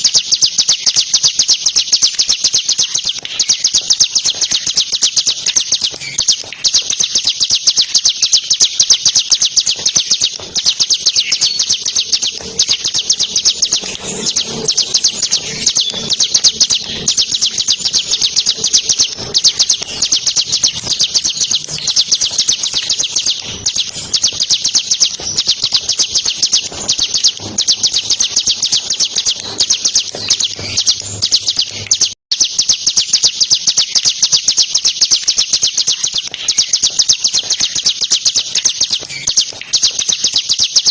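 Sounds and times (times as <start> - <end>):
bird singing rattling trill: 0.0 - 40.9.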